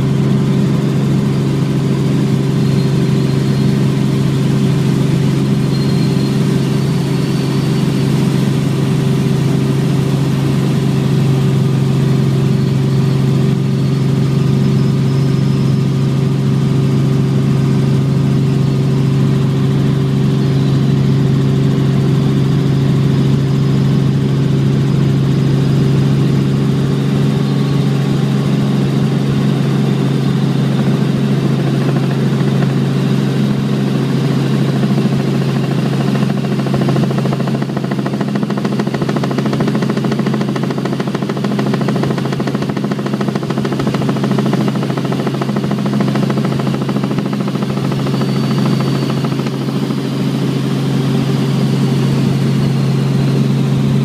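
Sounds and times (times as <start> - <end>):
constant low hum tones: 0.0 - 54.0
helicopter engine and rotor drone: 0.0 - 54.0.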